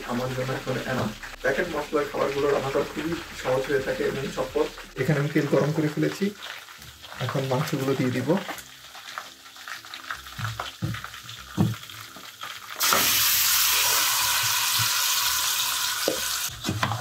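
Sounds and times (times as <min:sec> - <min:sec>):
meat sizzling in hot oil: 0:00.0 - 0:17.0.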